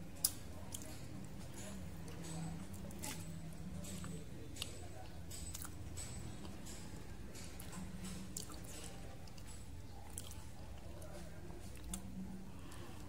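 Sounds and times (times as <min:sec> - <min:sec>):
person chewing wetly: 0:02.0 - 0:06.8, 0:07.4 - 0:13.0.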